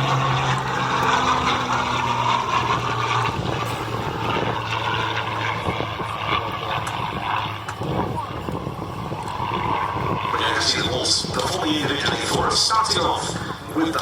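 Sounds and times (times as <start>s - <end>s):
propeller aircraft flying by: 0.0s - 14.0s.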